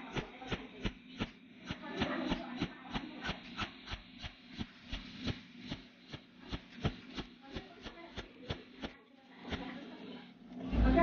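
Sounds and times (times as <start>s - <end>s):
welding machine sharp clicks: 0.0s - 9.9s.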